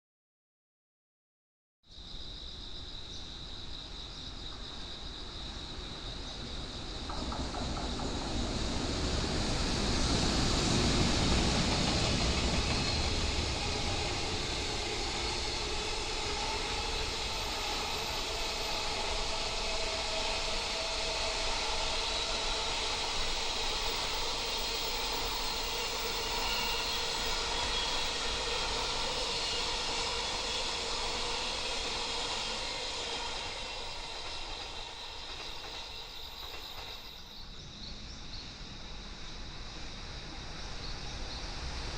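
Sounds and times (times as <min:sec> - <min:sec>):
electric locomotive passing: 0:03.4 - 0:41.9.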